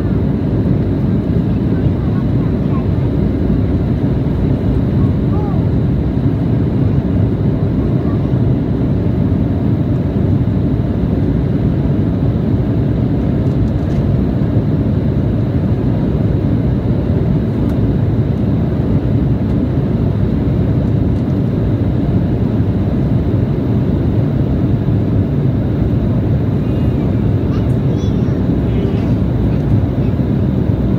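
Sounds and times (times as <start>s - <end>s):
airliner cabin rumble: 0.0s - 30.9s.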